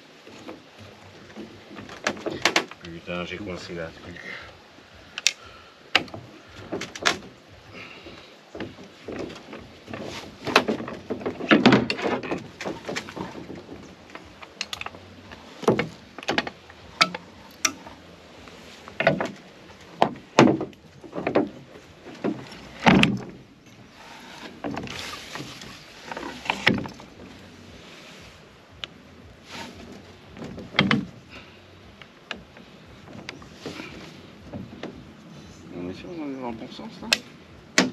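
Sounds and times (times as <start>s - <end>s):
oars knocking in oarlocks: 0.2s - 3.6s, 5.0s - 37.9s.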